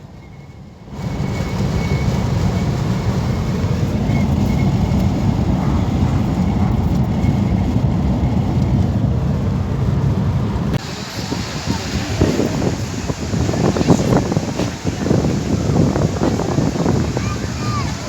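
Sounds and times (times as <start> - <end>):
car road and wind rumble: 0.0 - 18.0.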